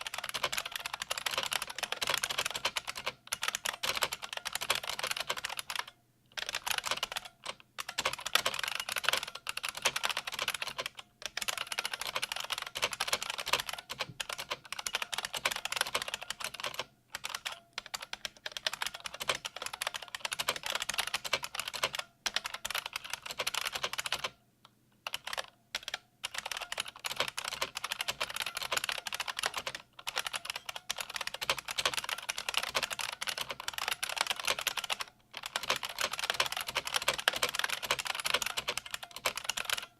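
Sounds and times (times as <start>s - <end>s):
loud clicking keyboard typing: 0.0s - 24.4s, 25.0s - 39.9s.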